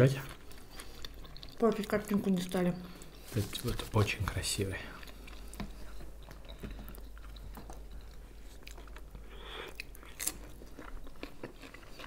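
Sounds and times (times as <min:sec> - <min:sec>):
biting and chewing: 0:00.0 - 0:02.3, 0:03.0 - 0:12.0.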